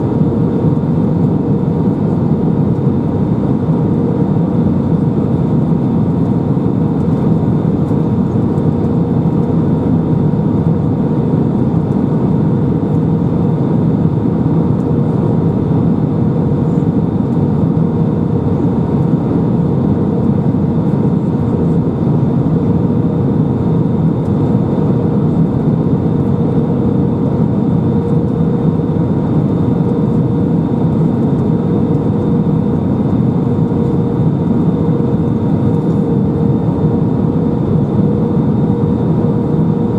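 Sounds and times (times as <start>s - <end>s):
airliner cabin engine and air rush: 0.0s - 39.9s.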